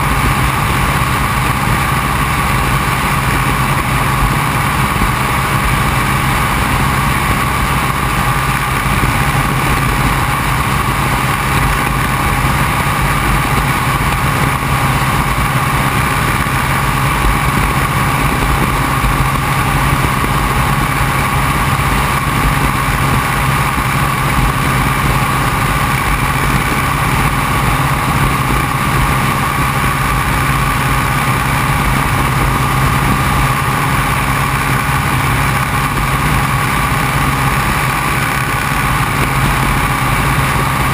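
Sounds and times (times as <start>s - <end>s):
propeller plane engine droning: 0.0s - 40.9s
wind buffeting microphone: 0.0s - 40.9s.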